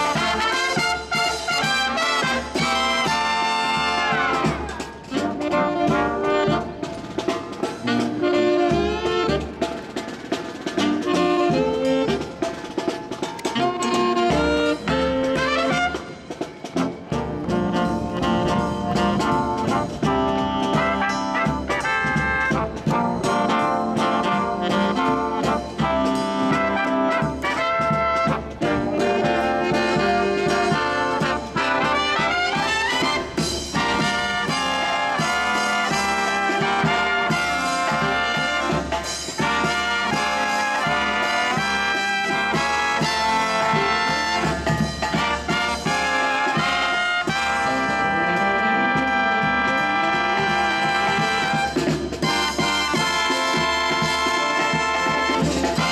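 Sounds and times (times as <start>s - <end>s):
marching brass band playing: 0.0s - 55.9s.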